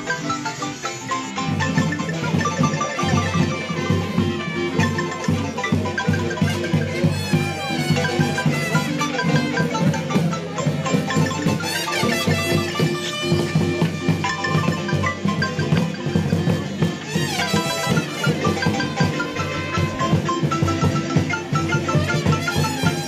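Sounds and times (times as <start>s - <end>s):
drum beat: 0.0s - 23.0s
marimba notes: 0.0s - 23.0s.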